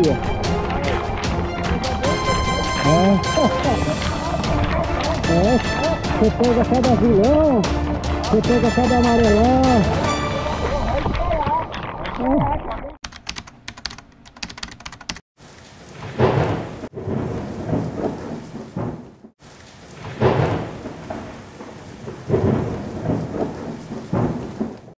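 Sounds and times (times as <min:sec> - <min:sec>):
steady rain: 0:00.0 - 0:12.2, 0:15.4 - 0:25.0
thunder cracking and rumbling: 0:00.0 - 0:12.8, 0:16.0 - 0:19.3, 0:19.9 - 0:25.0
raindrops pattering: 0:00.0 - 0:13.3, 0:14.4 - 0:25.0.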